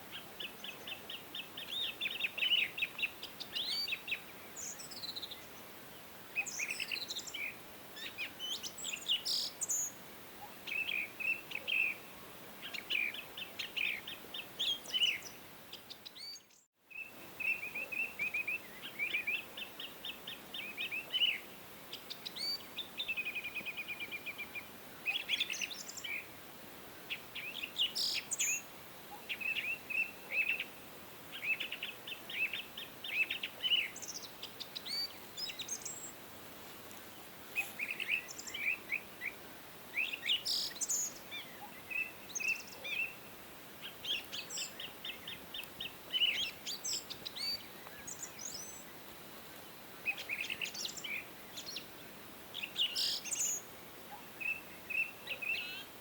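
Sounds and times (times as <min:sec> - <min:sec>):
songbirds chirping and trilling: 0:00.0 - 0:36.2, 0:36.9 - 0:56.0
faint steady hiss: 0:00.0 - 0:56.0.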